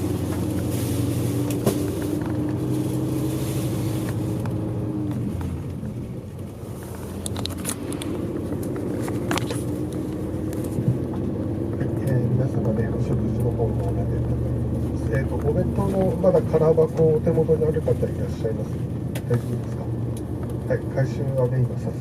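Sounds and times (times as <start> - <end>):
bus engine hum: 0.0 - 22.0
road noise: 0.0 - 22.0.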